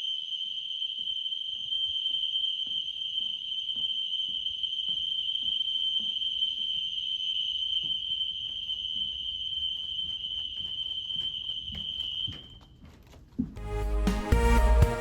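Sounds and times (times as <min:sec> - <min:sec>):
fire alarm horn steady tone: 0:00.0 - 0:12.8.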